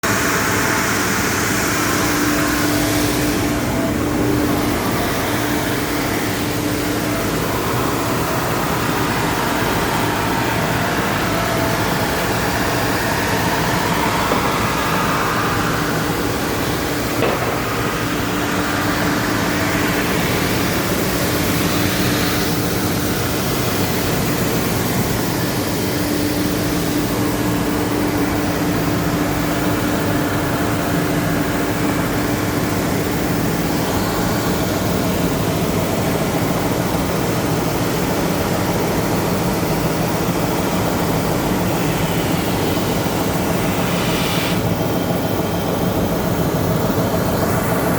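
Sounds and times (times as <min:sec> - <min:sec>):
constant hum: 0:00.0 - 0:47.9.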